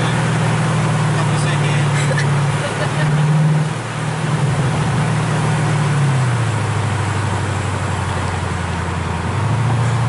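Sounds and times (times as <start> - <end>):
car engine from inside cabin: 0.0 - 10.0
road noise: 0.0 - 10.0.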